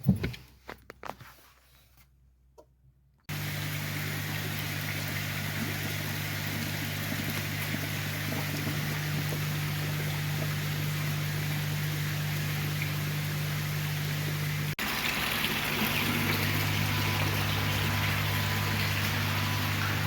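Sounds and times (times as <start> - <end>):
pumps humming: 3.3 - 20.0
rushing water: 3.3 - 20.0.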